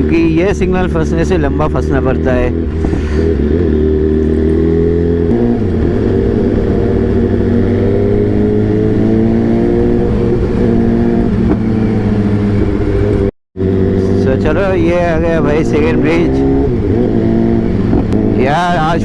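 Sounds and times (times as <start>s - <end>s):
motorbike engine accelerating: 0.0s - 19.0s.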